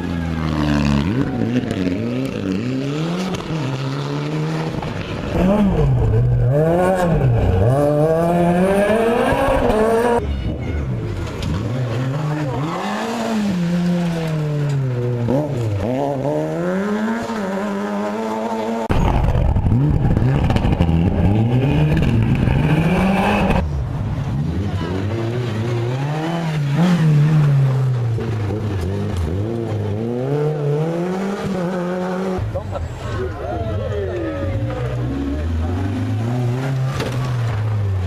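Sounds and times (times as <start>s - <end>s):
rally car engines revving: 0.0s - 38.0s.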